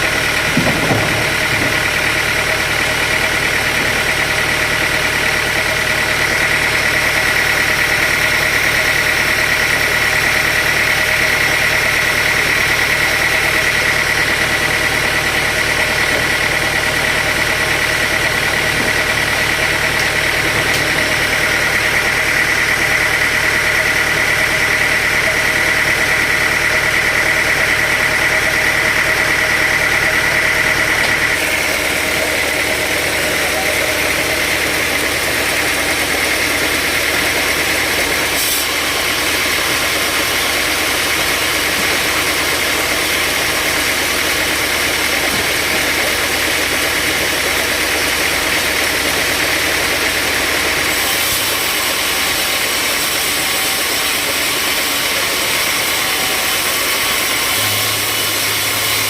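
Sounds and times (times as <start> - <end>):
high machine whine: 0.0 - 59.0
sawmill machinery drone: 0.0 - 59.0.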